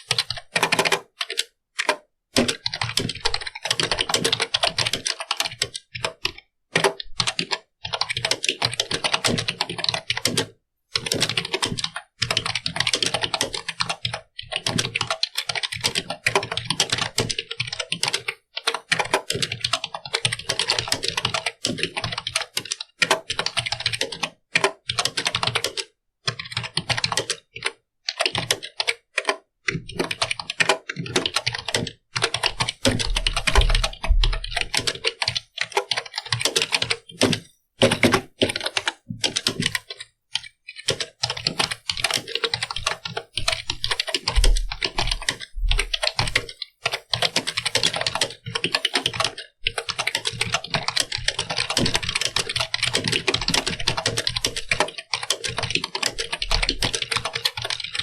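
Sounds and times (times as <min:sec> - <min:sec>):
fast typing on keyboard: 0:00.0 - 0:58.0.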